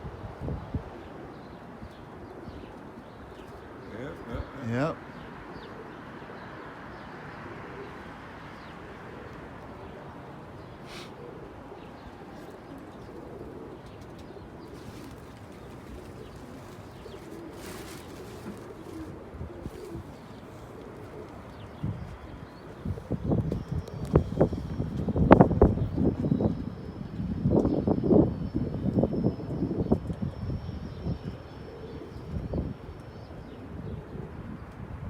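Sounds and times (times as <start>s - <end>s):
pigeons cooing: 0.6s - 34.7s.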